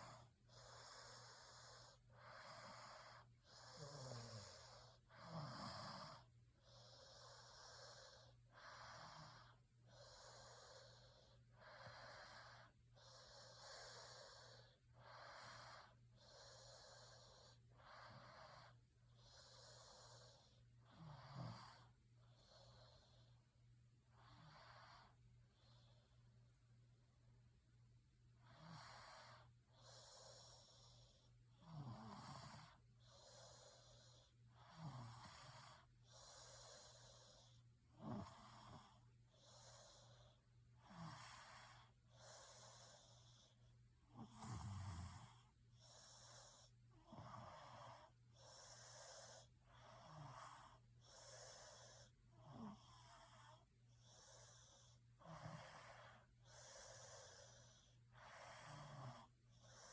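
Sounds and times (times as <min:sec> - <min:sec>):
person snoring: 0:00.0 - 0:23.3, 0:28.4 - 0:59.9
breathing in and out: 0:00.0 - 0:27.0, 0:27.6 - 0:59.9.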